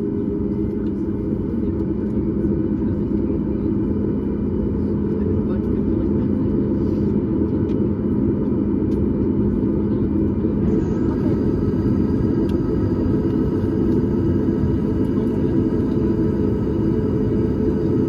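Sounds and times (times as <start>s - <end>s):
airplane cabin engine rumble: 0.0s - 18.0s
faint engine tones: 0.0s - 18.0s.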